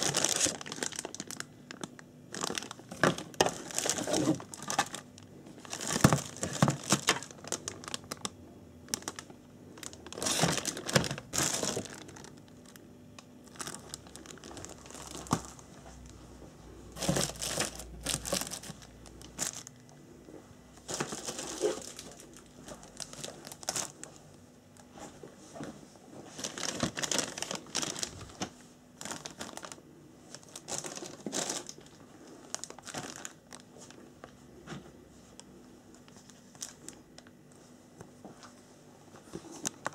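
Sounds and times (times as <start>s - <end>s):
plastic bags crinkling: 0.0s - 16.3s, 16.9s - 20.0s, 20.8s - 24.9s, 26.3s - 34.3s, 35.4s - 37.3s.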